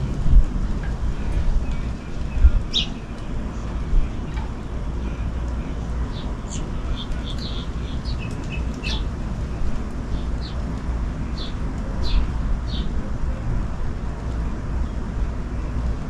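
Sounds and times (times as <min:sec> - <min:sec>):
small birds chirping: 0:00.0 - 0:13.4
steady low rumble: 0:00.0 - 0:16.0.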